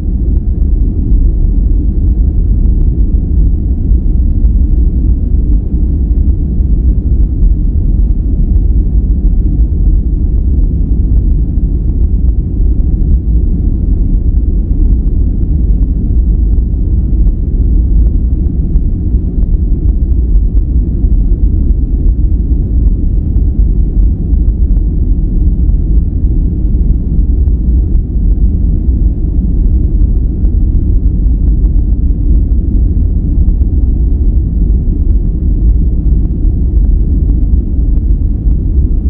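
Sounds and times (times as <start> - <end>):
deep brown noise: 0.0 - 39.0.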